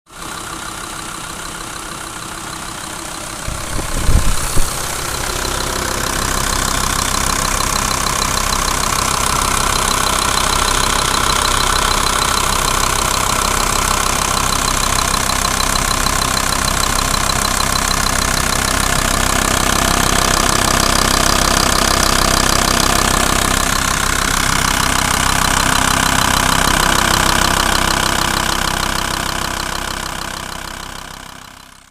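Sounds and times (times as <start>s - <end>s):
diesel engine idling with knock: 0.1s - 31.9s.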